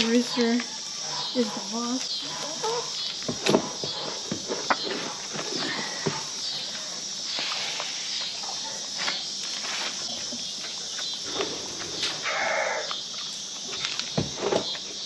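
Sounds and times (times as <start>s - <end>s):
chickens calling: 0.0s - 15.0s.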